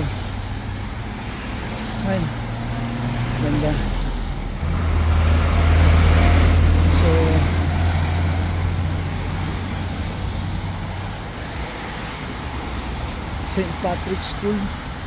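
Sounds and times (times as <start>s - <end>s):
traffic swishing on wet road: 0.0s - 15.0s
truck engine hum: 0.0s - 15.0s.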